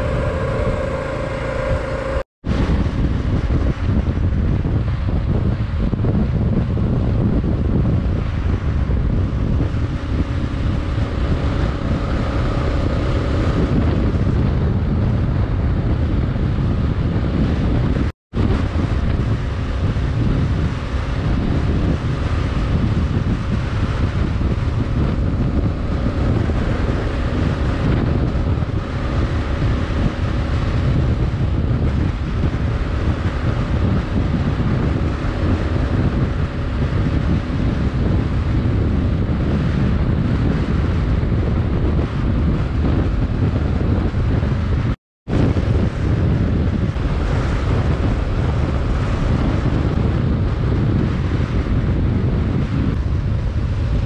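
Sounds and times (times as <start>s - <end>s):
motorcycle engine hum: 0.0s - 54.0s
wind buffeting microphone: 0.0s - 54.0s.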